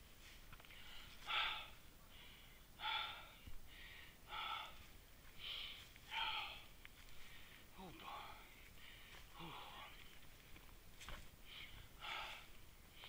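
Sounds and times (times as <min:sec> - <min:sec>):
person breathing hard: 0:00.6 - 0:10.3, 0:11.1 - 0:13.0.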